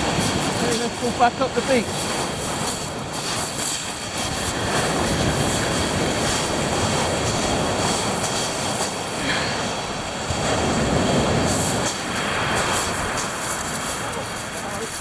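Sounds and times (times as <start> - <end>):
waves washing onto shingle: 0.0 - 15.0.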